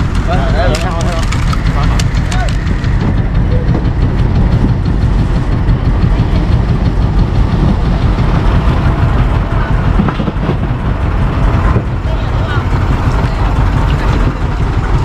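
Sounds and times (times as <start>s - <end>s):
boat engine knocking rumble: 0.0s - 15.0s.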